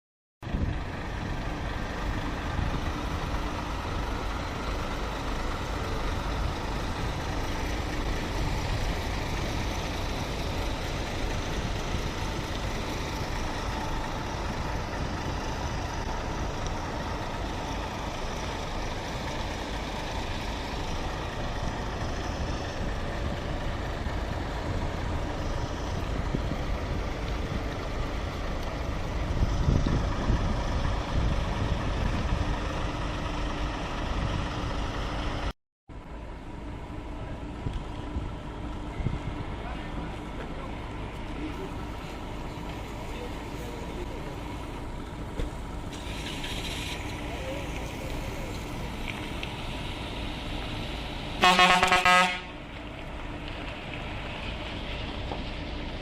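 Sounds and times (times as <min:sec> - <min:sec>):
diesel bus engines rumbling: 0:00.4 - 0:56.0.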